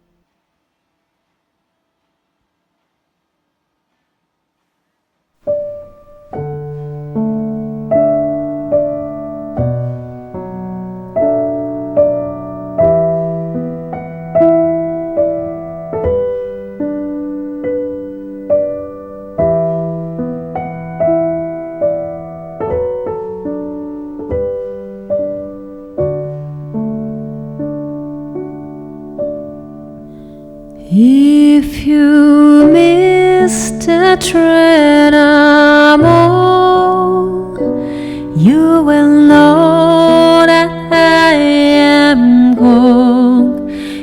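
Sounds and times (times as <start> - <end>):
piano playing slow chords: 5.4 - 44.0.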